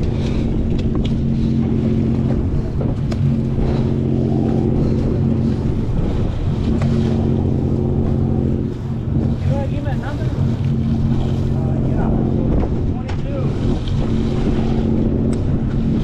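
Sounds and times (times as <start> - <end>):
boat engines droning: 0.0 - 16.0.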